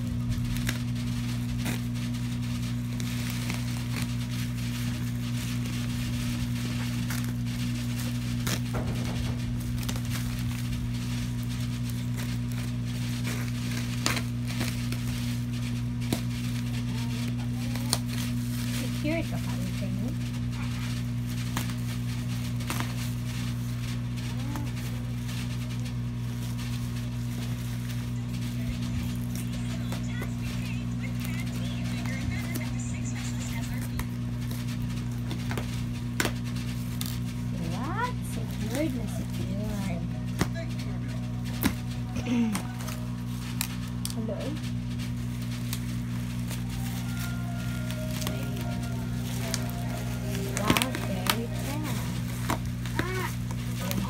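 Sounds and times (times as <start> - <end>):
plastic crinkling: 0.0 - 54.0
steady low hum: 0.0 - 54.0
scissors snipping bubble wrap: 0.2 - 54.0.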